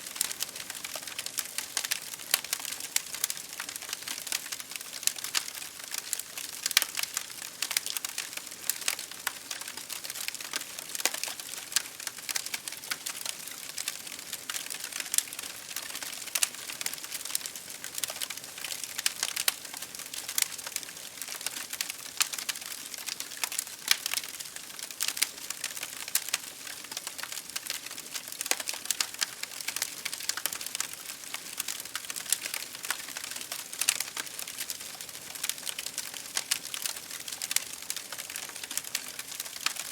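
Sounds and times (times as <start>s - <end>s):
rain pattering on window: 0.0s - 39.9s
wood fire crackling: 0.0s - 39.9s.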